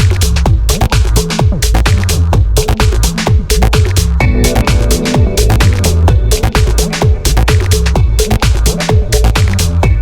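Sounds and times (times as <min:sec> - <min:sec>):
electronic dance music: 0:00.0 - 0:10.0
pounding kick drum: 0:00.0 - 0:10.0.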